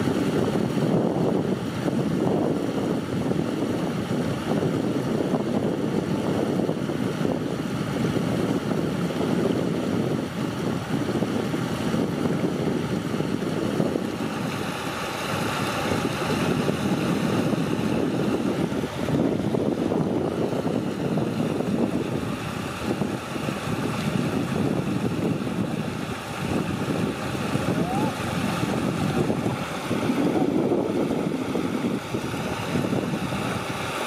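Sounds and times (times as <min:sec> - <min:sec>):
floodwater rushing: 0:00.0 - 0:34.0.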